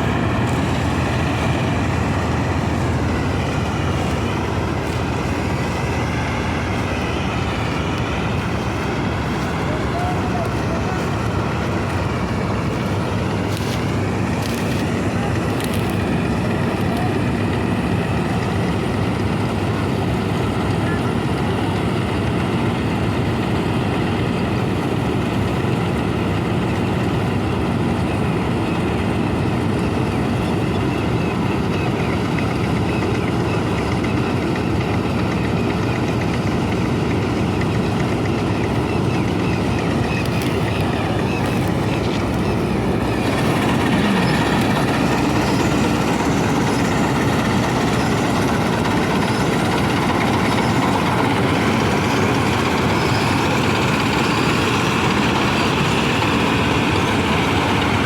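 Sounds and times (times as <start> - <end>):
diesel farm machinery drone: 0.0 - 58.0.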